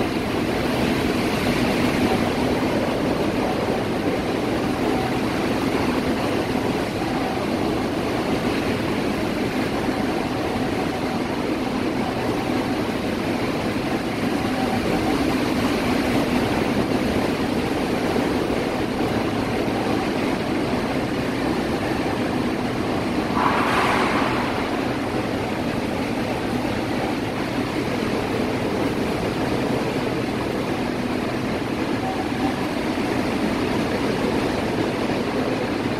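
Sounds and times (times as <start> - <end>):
heavy rain and wind: 0.0 - 35.9.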